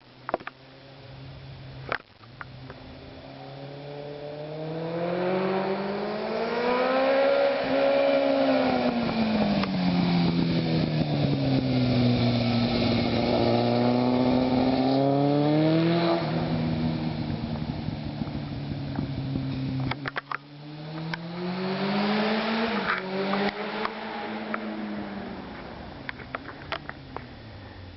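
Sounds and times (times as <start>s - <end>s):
motorcycle engine revving: 2.3s - 27.9s.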